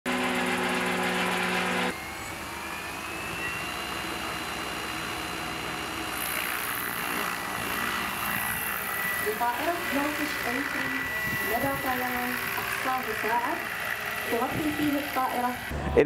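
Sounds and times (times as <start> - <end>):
helicopter rotors whirring: 0.1 - 16.0
high motor whine: 0.1 - 16.0
loud steady hum: 0.1 - 16.0.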